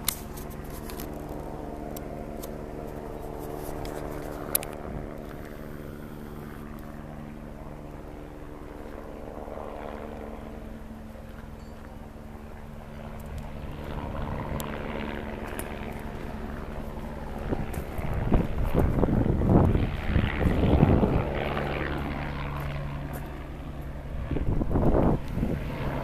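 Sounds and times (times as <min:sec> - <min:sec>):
steady engine drone: 0:00.0 - 0:26.0.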